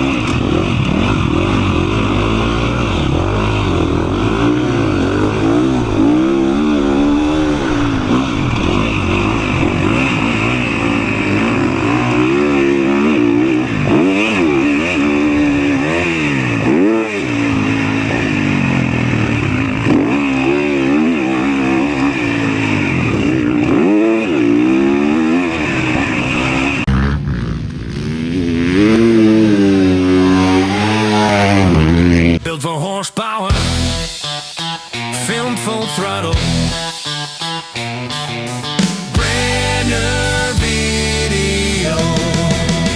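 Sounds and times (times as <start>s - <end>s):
dirt bike engine revving: 0.0s - 32.8s, 33.5s - 42.9s.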